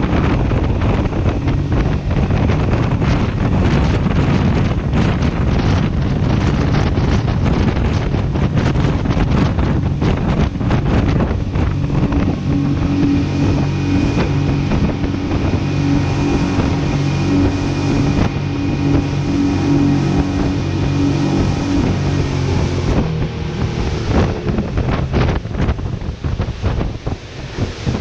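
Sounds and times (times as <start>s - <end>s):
speedboat engine drone: 0.0s - 28.0s
wind buffeting microphone: 0.0s - 28.0s.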